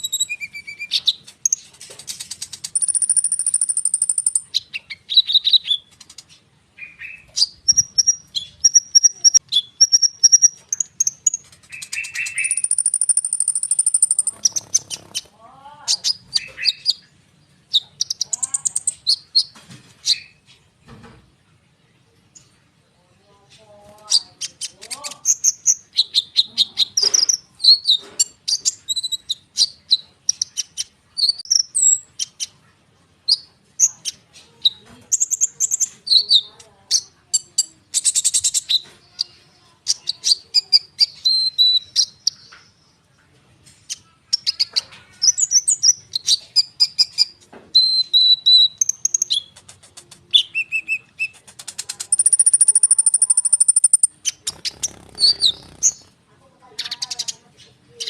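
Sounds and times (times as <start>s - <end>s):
bird singing high chirps and trills: 0.0s - 20.7s, 24.0s - 32.6s, 33.2s - 43.0s, 43.8s - 49.6s, 50.3s - 58.0s.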